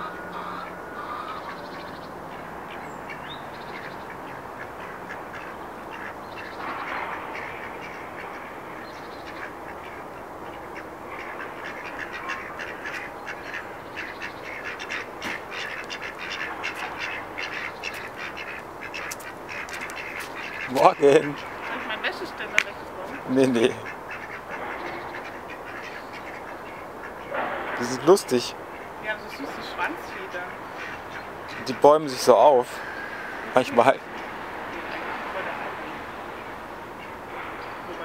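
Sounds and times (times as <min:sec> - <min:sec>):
drakes quacking: 0:00.0 - 0:38.0.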